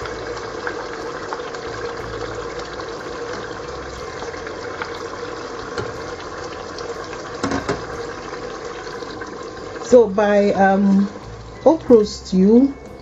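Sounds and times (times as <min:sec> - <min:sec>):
sauce sizzling and bubbling in a pot: 0:00.0 - 0:13.0.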